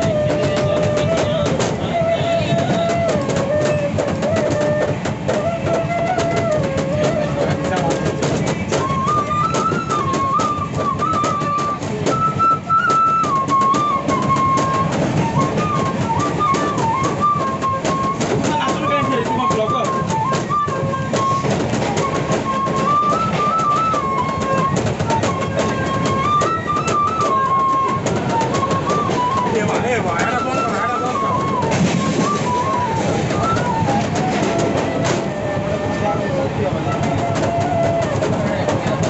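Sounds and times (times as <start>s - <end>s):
bamboo flute melody: 0.0s - 39.0s
percussive beats: 0.0s - 39.0s.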